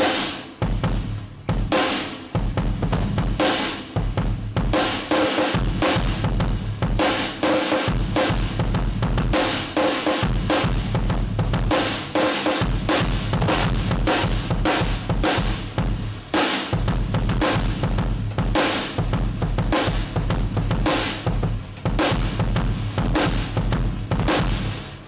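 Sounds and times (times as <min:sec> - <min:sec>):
drum kit groove: 0:00.0 - 0:25.0.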